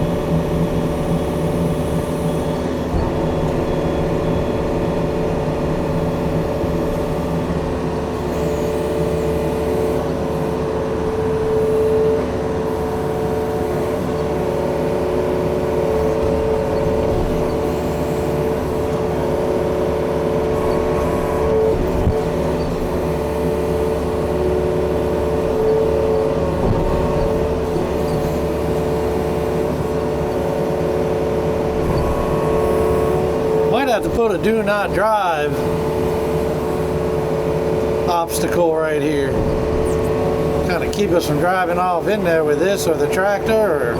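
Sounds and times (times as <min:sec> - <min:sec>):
diesel engine running under load: 0:00.0 - 0:43.9.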